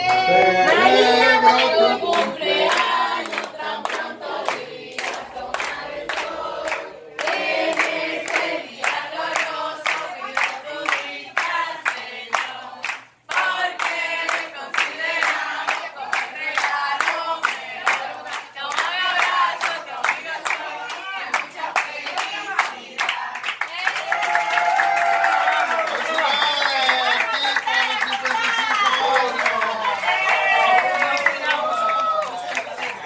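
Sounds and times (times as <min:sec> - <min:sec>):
group singing birthday song: 0:00.0 - 0:24.2, 0:27.2 - 0:33.0
people clapping in time: 0:00.0 - 0:33.0.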